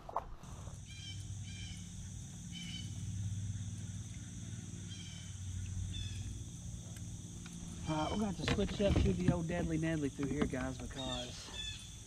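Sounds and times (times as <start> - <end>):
insect drone: 0.0 - 12.0
low hum: 0.0 - 12.0.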